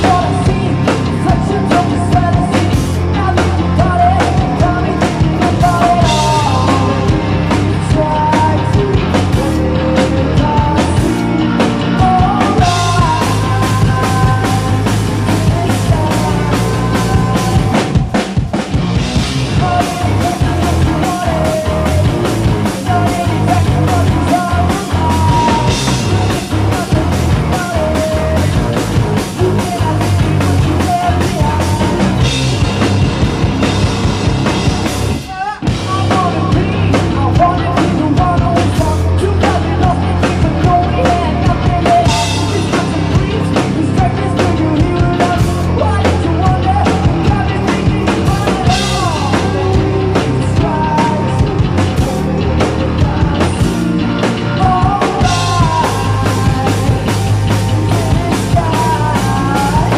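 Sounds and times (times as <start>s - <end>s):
drum kit beat: 0.0s - 59.9s
electric guitars: 0.0s - 59.9s
person singing lead vocal: 0.0s - 59.9s.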